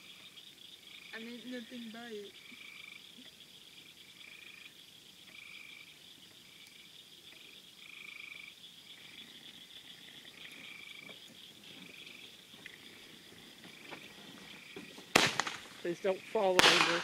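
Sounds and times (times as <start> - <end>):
frogs trilling: 0.0 - 17.0.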